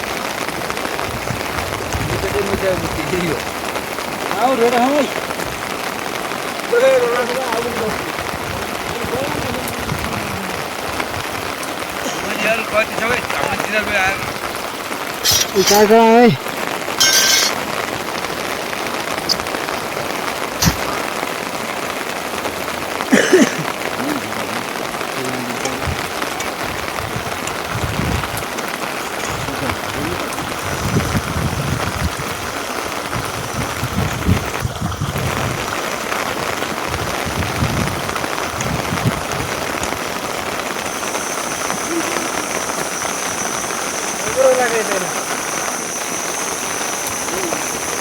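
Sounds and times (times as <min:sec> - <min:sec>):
steady rain patter: 0:00.0 - 0:48.0.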